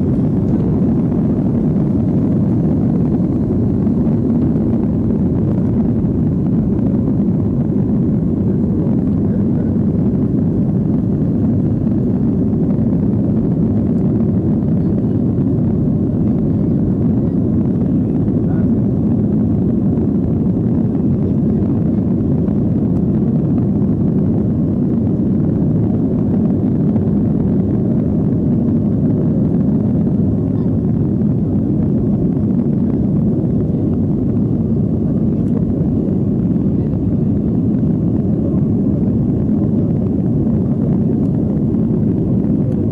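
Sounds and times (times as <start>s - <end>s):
jet engines rumbling: 0.0s - 42.9s
rushing air in cabin: 0.0s - 42.9s.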